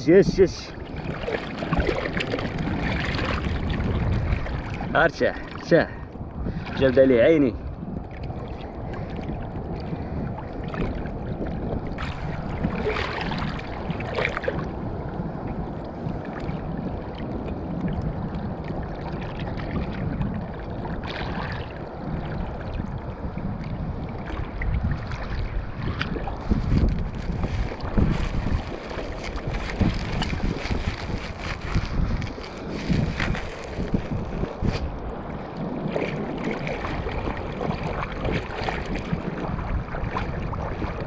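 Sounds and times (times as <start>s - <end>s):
sea water lapping and splashing: 0.0s - 41.0s
wind buffeting microphone: 0.0s - 41.0s.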